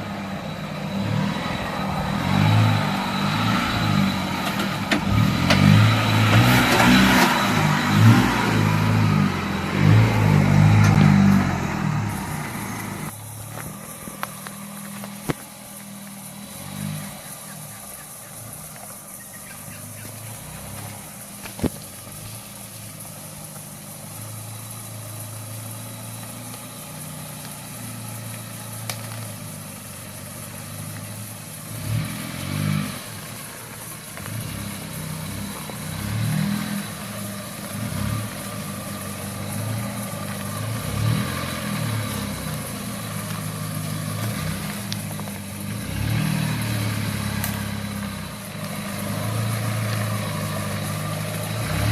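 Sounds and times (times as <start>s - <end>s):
diesel engine revving: 0.0s - 51.9s.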